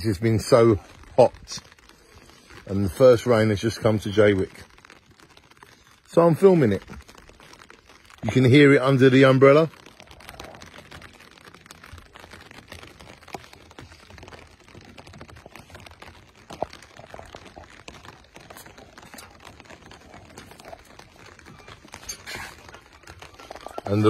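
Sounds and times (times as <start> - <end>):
rain pattering on umbrella: 0.0 - 24.0.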